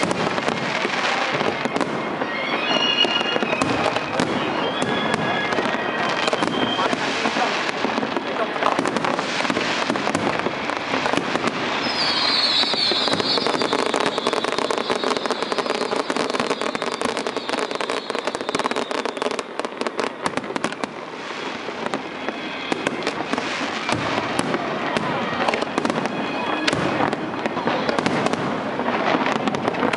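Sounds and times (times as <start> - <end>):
firework pops and crackling: 0.0 - 29.9.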